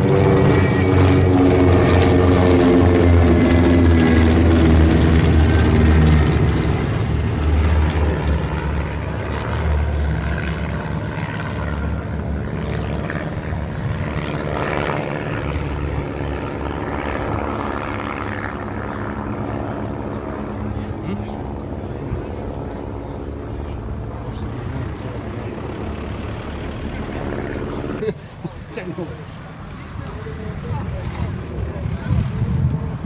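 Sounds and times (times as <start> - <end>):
propeller aircraft flying past: 0.0 - 33.0.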